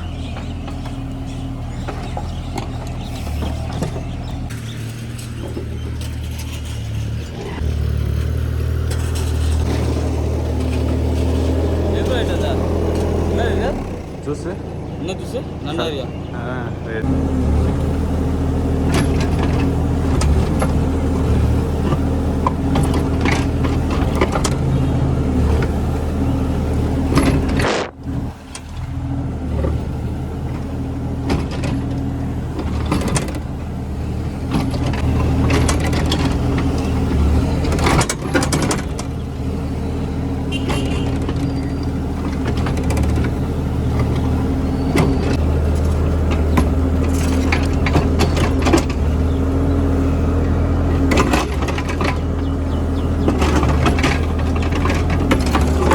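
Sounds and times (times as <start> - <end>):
knocks and clatters: 0.0 - 15.0, 18.8 - 55.9
engine running: 0.0 - 55.9.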